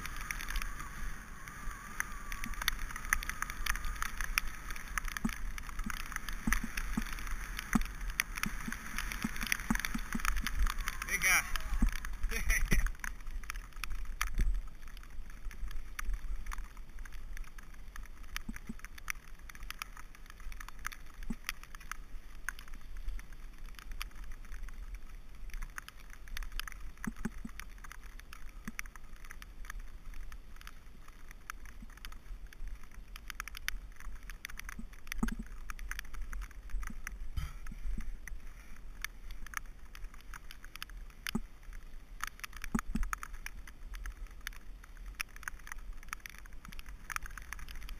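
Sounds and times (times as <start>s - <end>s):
bike clicks and rattles: 0.0s - 47.9s
bike tyres on wet ground: 0.0s - 47.9s.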